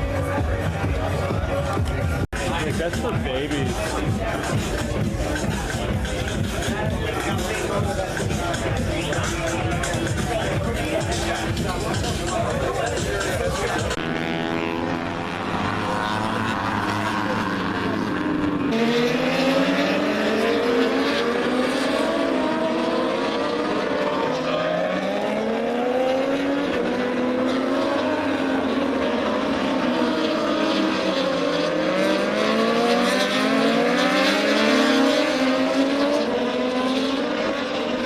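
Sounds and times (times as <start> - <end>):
racing motorcycle engines revving: 0.0 - 38.0.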